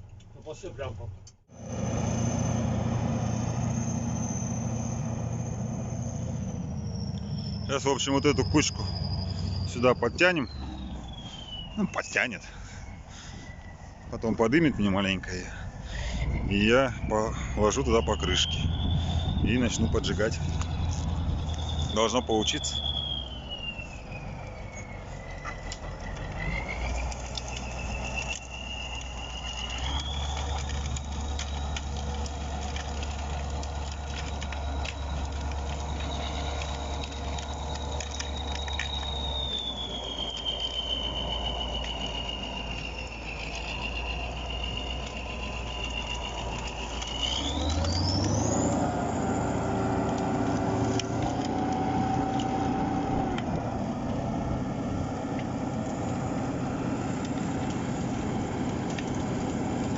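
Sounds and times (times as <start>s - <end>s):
diesel tractor engine under load: 0.0s - 59.9s
high engine whine: 0.0s - 59.9s.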